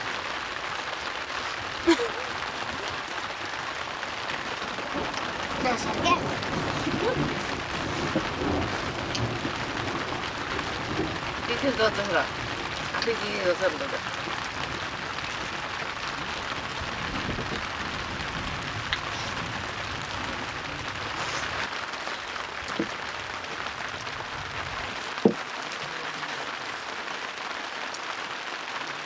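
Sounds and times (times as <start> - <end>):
rain pattering on roof: 0.0 - 29.0.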